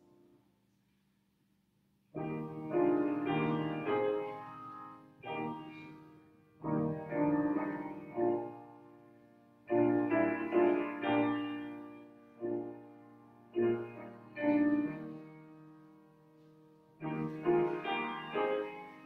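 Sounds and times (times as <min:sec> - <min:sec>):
slow quiet piano chords: 0:00.0 - 0:01.2, 0:02.0 - 0:19.0.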